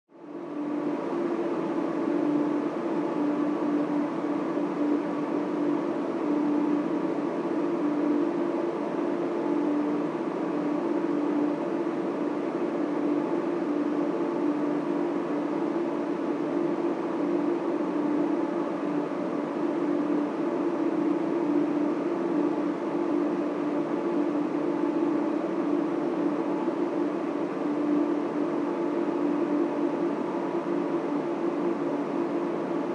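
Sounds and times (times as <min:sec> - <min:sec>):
server fans whirring: 0:00.1 - 0:32.9.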